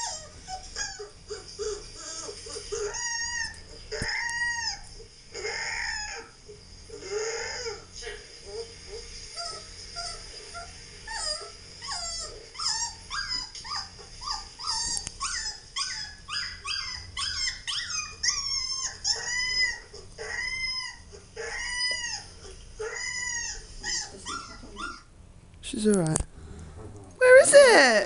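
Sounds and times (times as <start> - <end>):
puppy whining and yelping: 0.0 - 7.9, 8.5 - 25.1.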